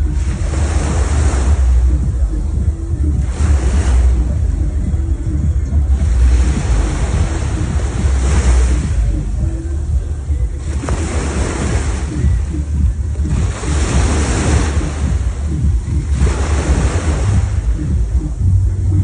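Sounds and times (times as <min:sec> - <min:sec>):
sea waves surging and washing: 0:00.0 - 0:19.0
wind rumble on microphone: 0:00.0 - 0:19.0.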